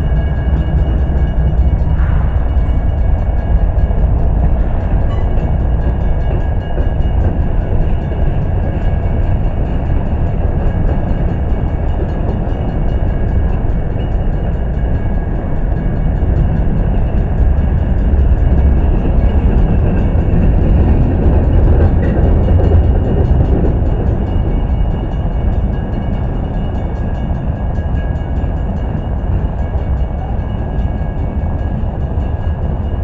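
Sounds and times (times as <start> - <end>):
freight train wheels rumbling on rail: 0.0 - 33.0.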